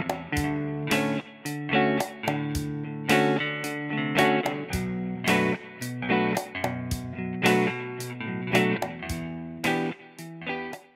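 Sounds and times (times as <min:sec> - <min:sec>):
strummed guitar chords: 0:00.0 - 0:10.9.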